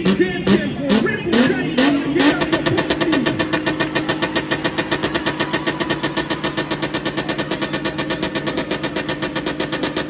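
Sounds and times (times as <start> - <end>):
car engine on rev limiter: 0.0 - 10.0.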